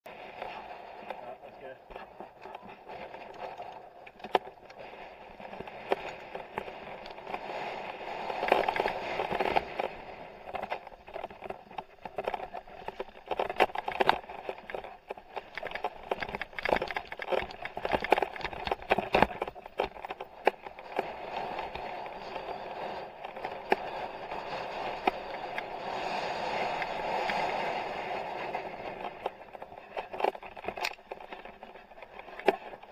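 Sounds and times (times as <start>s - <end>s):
bike riding rushing noise: 0.1s - 32.9s
bike rattling clicks and knocks: 0.3s - 32.9s.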